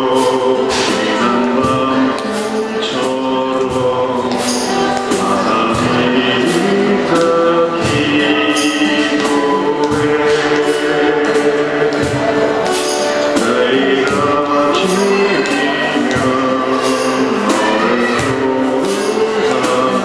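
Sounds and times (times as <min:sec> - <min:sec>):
cajon beat: 0:00.0 - 0:20.0
man and woman singing duet: 0:00.0 - 0:20.0
strummed acoustic guitars: 0:00.0 - 0:20.0.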